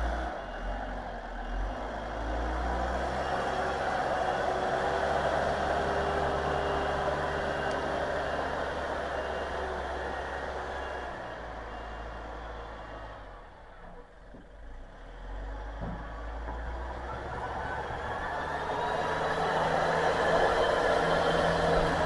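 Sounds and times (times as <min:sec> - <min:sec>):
plow blade pushing snow: 0:00.0 - 0:14.0, 0:14.6 - 0:22.0
loader diesel engine running: 0:00.0 - 0:22.0.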